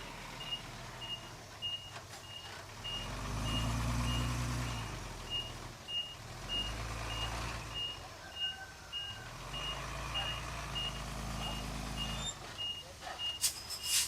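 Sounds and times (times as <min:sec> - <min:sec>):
diesel engine running: 0:00.0 - 0:13.7
reversing alarm beeping: 0:00.4 - 0:13.7.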